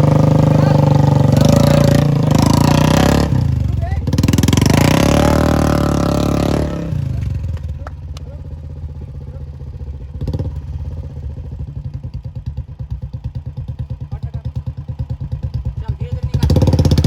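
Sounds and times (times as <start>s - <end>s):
motorcycle engine revving and thumping: 0.0s - 17.0s.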